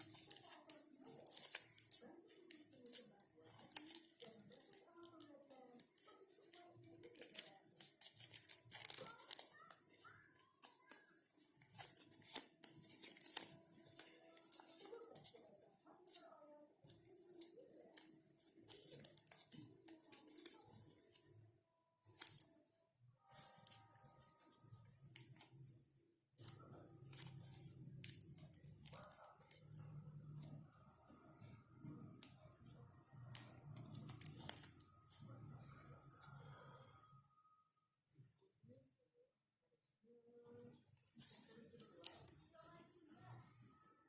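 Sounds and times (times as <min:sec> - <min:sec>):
paper crinkling: 0:00.0 - 0:22.5, 0:23.2 - 0:25.6, 0:26.4 - 0:36.6, 0:41.2 - 0:42.8.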